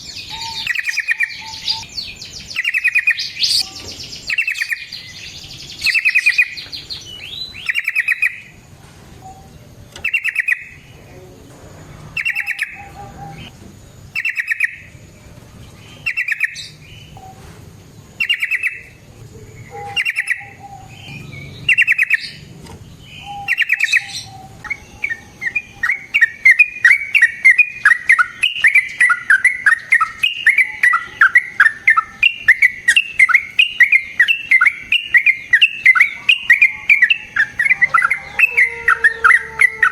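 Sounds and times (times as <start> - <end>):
bird singing bubbly phrases: 0.0 - 8.6, 9.2 - 11.4, 12.1 - 13.5, 14.1 - 17.4, 18.1 - 39.9.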